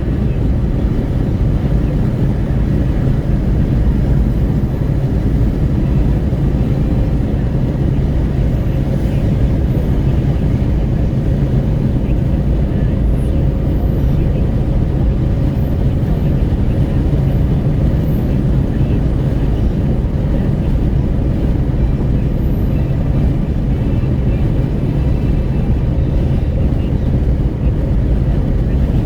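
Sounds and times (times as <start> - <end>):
wind rushing at car window: 0.0 - 29.0.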